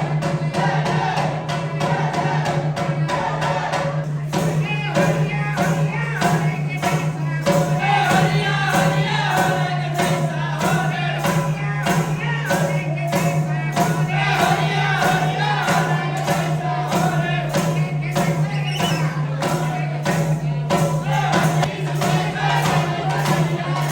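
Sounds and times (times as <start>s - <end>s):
group singing: 0.0s - 23.9s
percussion beat: 0.0s - 23.9s
tambourine jingling: 4.0s - 23.9s.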